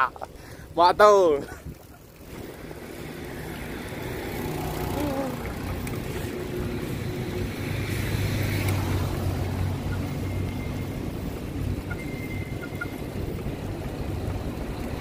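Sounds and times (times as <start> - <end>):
road noise: 0.0 - 15.0
wind rumble on microphone: 1.4 - 15.0
passing motor traffic: 1.8 - 15.0.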